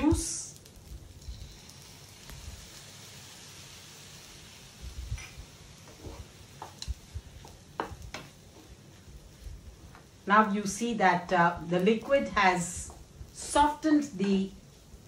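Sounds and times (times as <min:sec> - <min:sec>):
juice sizzling in a hot pan: 0:00.0 - 0:15.0.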